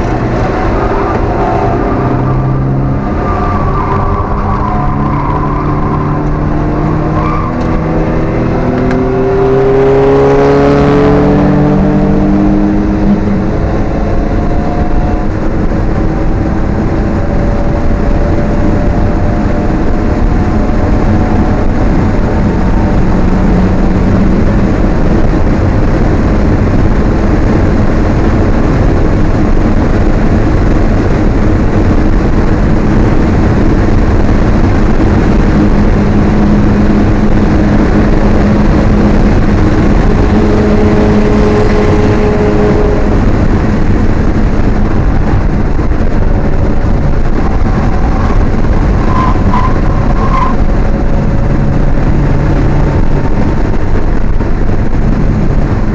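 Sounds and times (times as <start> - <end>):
car engine accelerating: 0.0 - 55.9
wind and road noise: 0.0 - 55.9.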